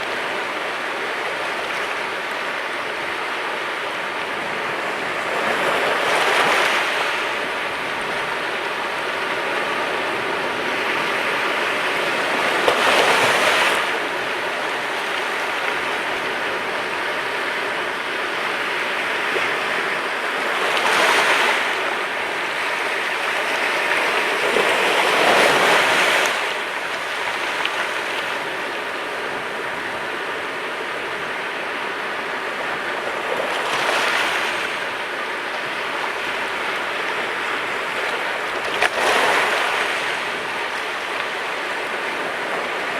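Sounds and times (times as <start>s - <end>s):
sea waves breaking on shore: 0.0s - 42.9s.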